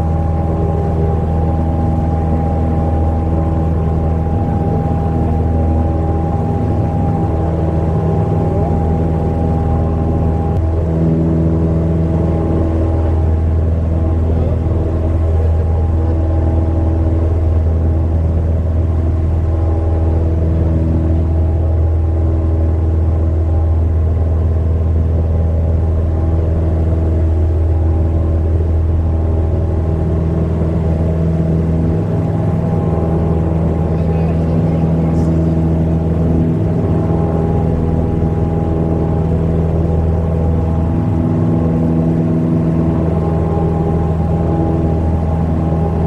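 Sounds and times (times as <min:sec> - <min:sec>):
light aircraft engine drone: 0:00.0 - 0:46.0.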